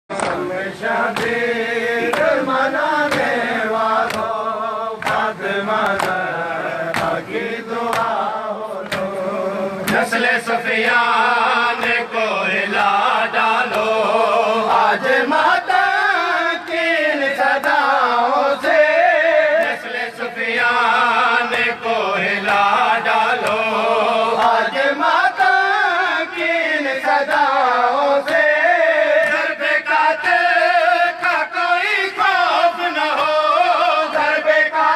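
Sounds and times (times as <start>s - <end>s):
men chanting: 0.1s - 34.9s.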